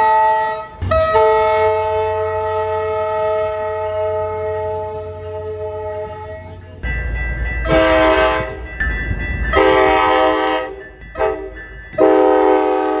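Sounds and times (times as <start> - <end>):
train horn blasts: 0.0 - 6.6, 7.7 - 8.7, 9.5 - 13.0
passing train rumble: 0.0 - 13.0.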